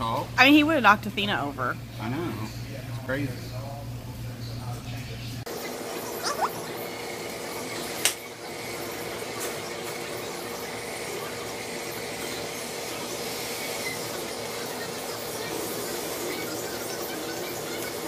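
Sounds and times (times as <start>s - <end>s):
kitchen equipment hum and hiss: 0.0s - 18.0s.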